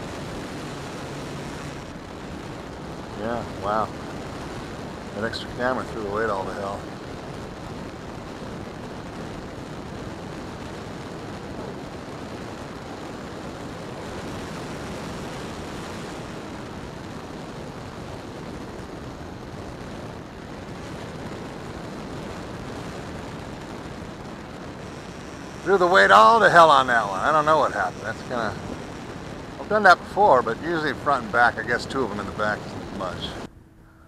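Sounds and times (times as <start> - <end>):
model plane rushing through air: 0.0 - 33.5.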